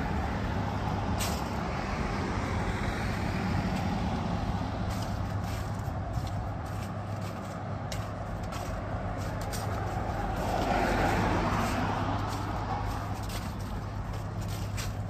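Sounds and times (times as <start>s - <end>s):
traffic hum: 0.0s - 15.0s
vehicle passing: 0.0s - 15.0s.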